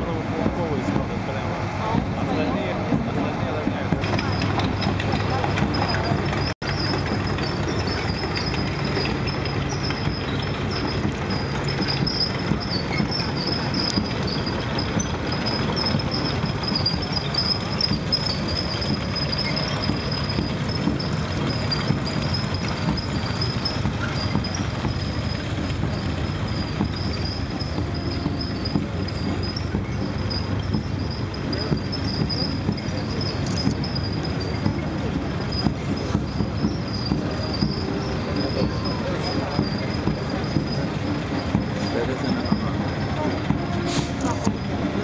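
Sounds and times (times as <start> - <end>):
vehicle engines running: 0.0 - 45.0
tank tracks clattering on pavement: 2.0 - 45.0
high wavering squeal: 4.0 - 45.0.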